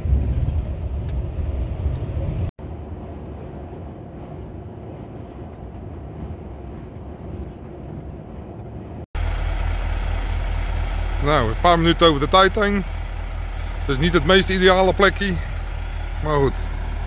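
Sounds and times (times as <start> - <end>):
lorry diesel engine drone: 0.0 - 17.0
road noise: 0.0 - 17.0.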